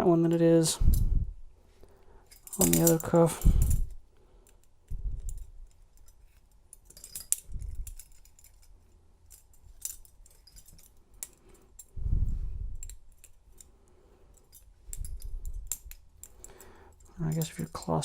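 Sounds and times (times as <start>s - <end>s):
handcuff metallic clicks and jingles: 0.8s - 1.2s, 2.0s - 18.0s.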